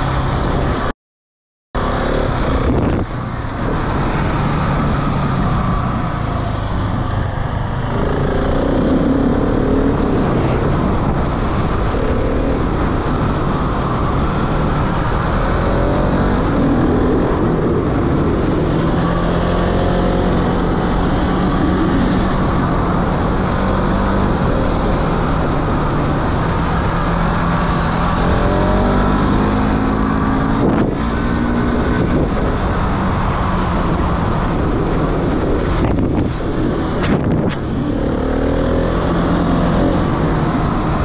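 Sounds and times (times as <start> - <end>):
wind noise on microphone: 1.8 - 41.0.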